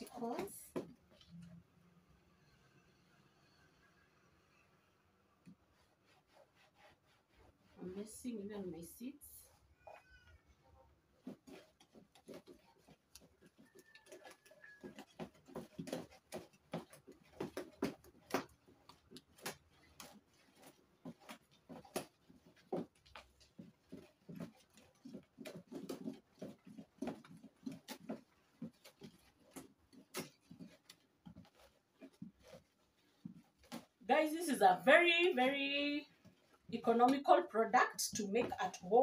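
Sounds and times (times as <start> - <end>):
liquid swishing: 4.5 - 37.4.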